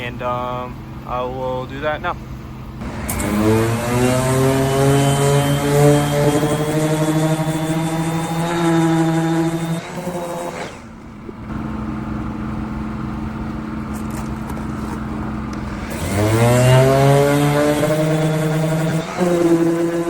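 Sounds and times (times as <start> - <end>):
low steady hum: 0.0 - 20.0
power sander running: 2.8 - 20.0.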